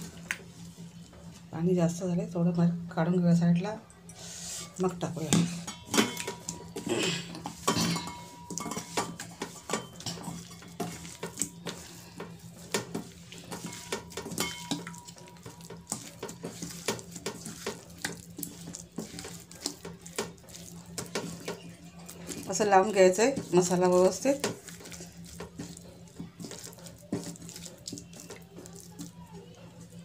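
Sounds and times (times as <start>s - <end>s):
fingers and fish clinking on steel bowl: 5.4s - 29.9s.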